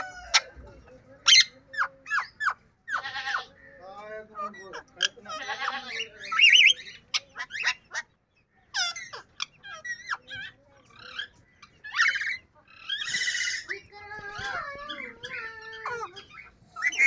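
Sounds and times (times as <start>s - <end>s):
parakeet chattering: 1.2s - 17.0s.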